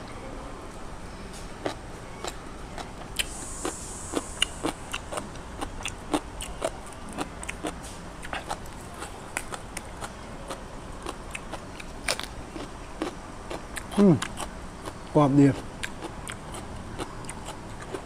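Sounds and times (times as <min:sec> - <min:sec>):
faint low hum: 0:00.0 - 0:18.0
chewing crunchy food: 0:01.3 - 0:18.0.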